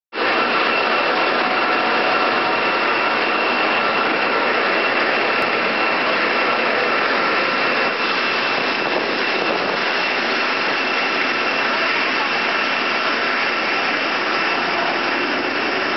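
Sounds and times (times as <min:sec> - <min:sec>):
jet engines rushing and whining: 0:00.1 - 0:15.9.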